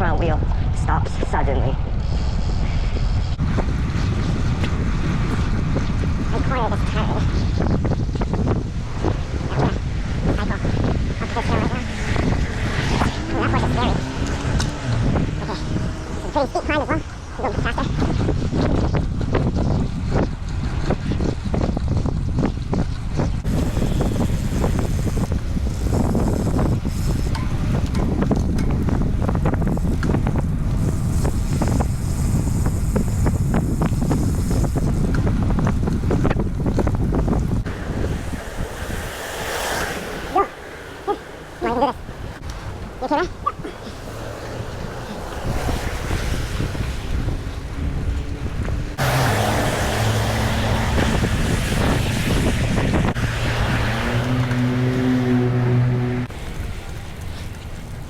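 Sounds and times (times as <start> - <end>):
road noise: 0.0 - 58.0
vehicle engine hum: 0.0 - 58.0
wind buffeting microphone: 0.0 - 58.0.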